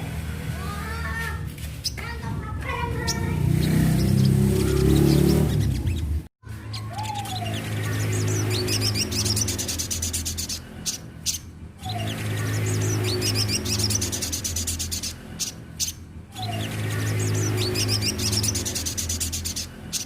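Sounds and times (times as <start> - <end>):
sunbird singing: 0.7 - 20.0.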